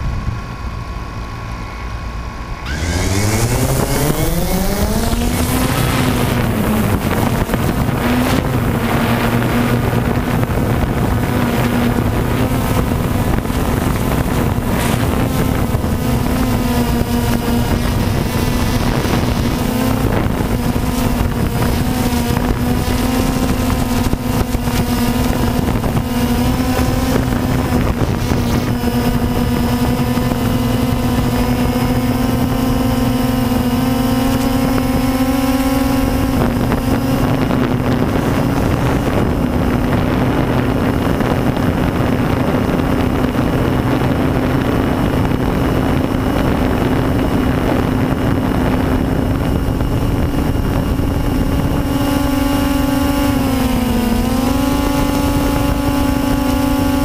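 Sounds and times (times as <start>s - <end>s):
drone propellers buzzing: 0.0s - 57.0s
wind on microphone: 0.0s - 57.0s.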